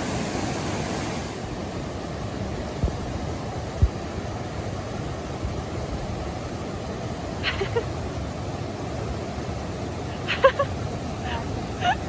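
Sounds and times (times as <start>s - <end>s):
creek and small waterfall rushing: 0.0s - 12.0s.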